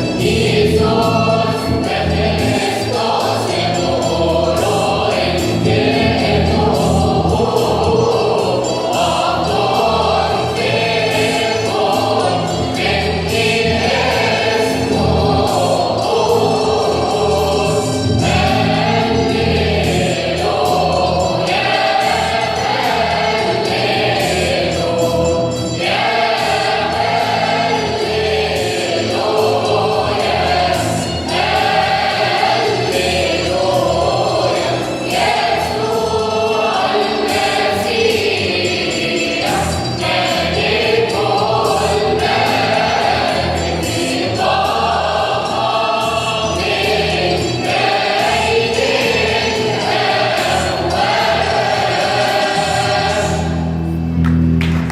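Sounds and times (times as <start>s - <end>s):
mixed choir singing: 0.0s - 54.9s
steady musical accompaniment: 0.0s - 54.9s.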